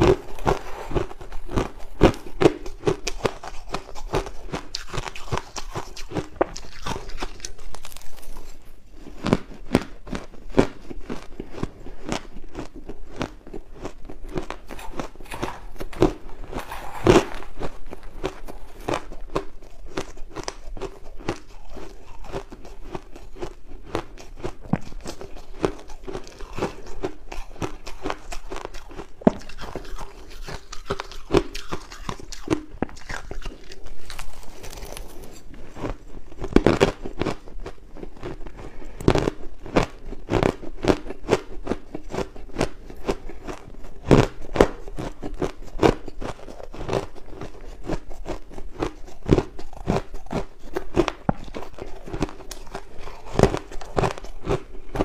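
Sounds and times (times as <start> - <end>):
ice crunching while chewed: 0.0 - 55.0.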